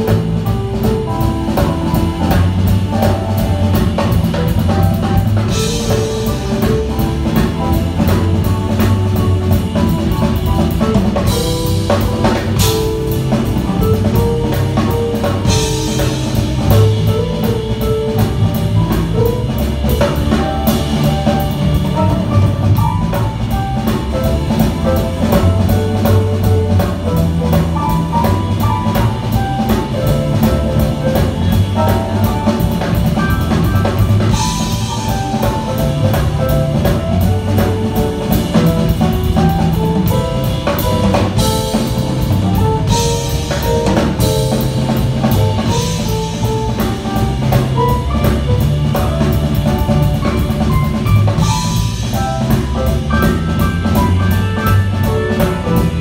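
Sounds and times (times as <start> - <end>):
drum kit cymbals: 0.0 - 56.0
live band playing: 0.0 - 56.0
low bass line: 0.0 - 56.0.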